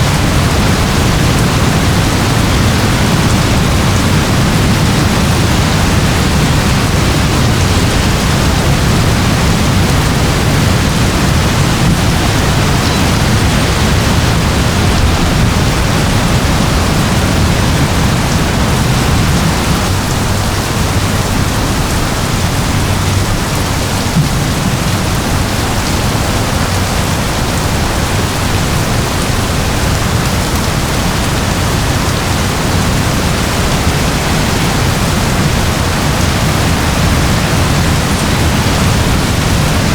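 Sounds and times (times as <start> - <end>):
heavy low rumble: 0.0 - 39.9
steady rain hissing: 0.0 - 39.9.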